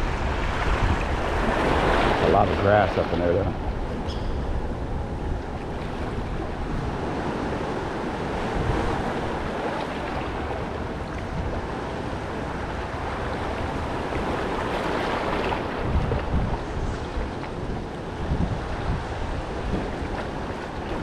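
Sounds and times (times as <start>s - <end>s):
water washing at shore: 0.0s - 4.1s, 4.7s - 21.0s
wind buffeting microphone: 0.0s - 21.0s.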